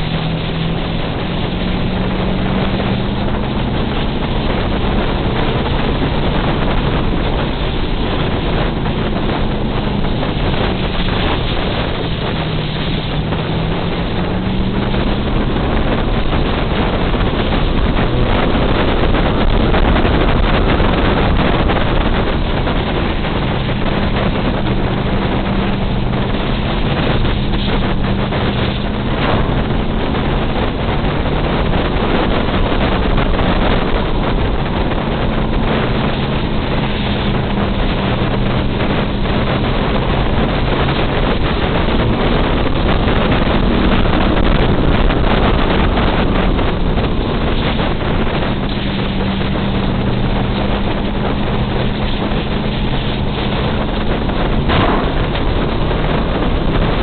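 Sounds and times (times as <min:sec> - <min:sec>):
race car engine running hard: 0:00.0 - 0:57.0
wind rush on microphone: 0:00.0 - 0:57.0.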